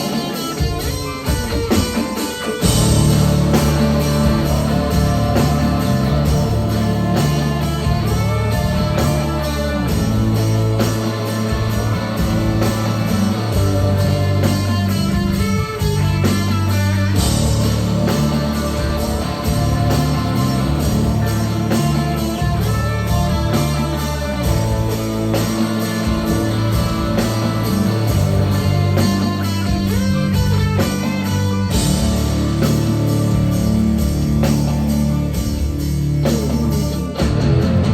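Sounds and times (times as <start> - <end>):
bass guitar: 0.0 - 37.9
electric guitar: 0.0 - 37.9
steady drum beat: 0.0 - 37.9.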